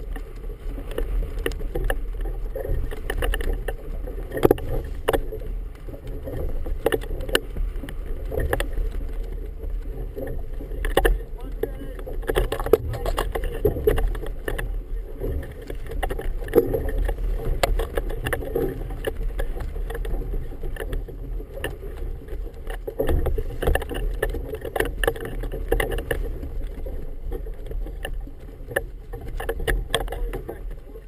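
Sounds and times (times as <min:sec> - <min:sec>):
flag flapping in wind: 0:00.0 - 0:31.0
water slapping boat hull: 0:00.0 - 0:31.0
wind buffeting camera: 0:00.0 - 0:31.0.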